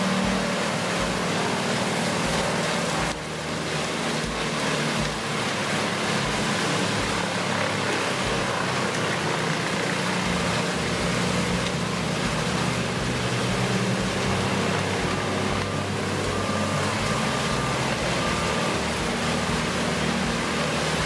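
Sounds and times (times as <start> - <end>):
loud rushing noise: 0.0 - 21.0
machine engine running under load: 0.0 - 21.0.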